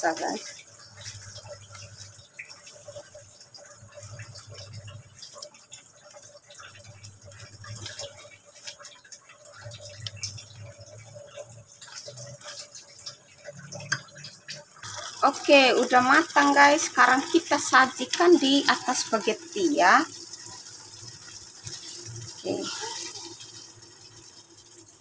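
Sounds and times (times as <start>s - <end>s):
sauce bubbling in a pan: 0.0s - 25.0s.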